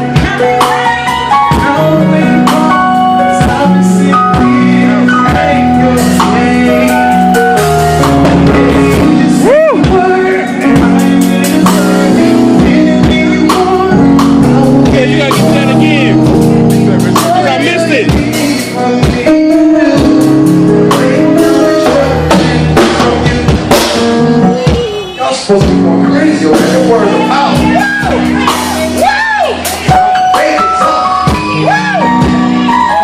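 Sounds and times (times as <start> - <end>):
music with steady beat: 0.0 - 33.0
vocals: 0.0 - 33.0.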